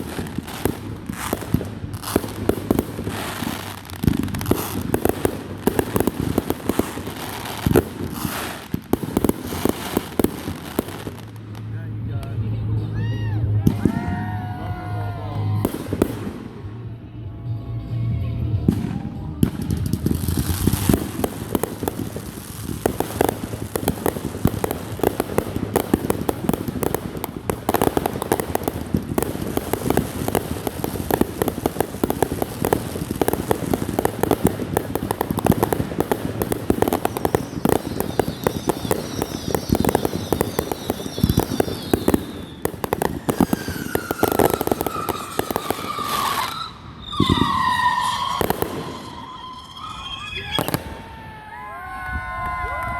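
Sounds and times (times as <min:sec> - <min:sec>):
fireworks whistling: 0:00.0 - 0:11.7, 0:13.5 - 0:16.9, 0:18.7 - 0:51.6
fireworks bangs and crackles: 0:00.0 - 0:52.9.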